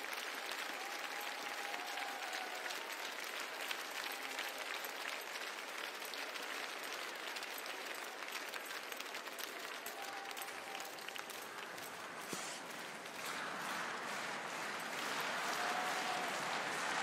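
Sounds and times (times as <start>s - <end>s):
spectators applauding: 0.0s - 17.0s.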